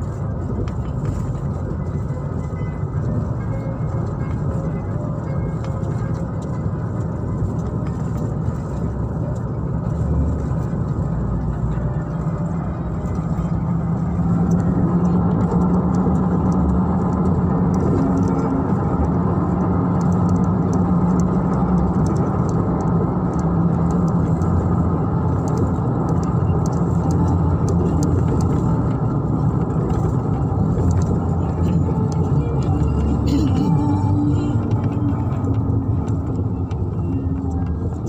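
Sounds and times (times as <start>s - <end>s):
car road and engine drone: 0.0s - 38.0s.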